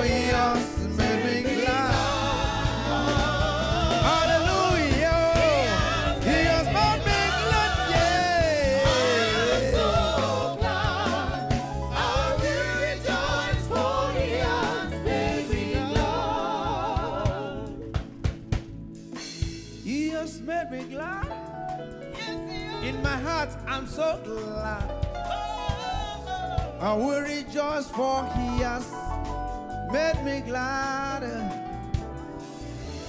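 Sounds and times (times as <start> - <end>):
man singing gospel: 0.0 - 17.9, 19.8 - 21.4, 22.1 - 25.0, 26.7 - 29.2, 29.8 - 31.8
instrumental backing: 0.0 - 33.0.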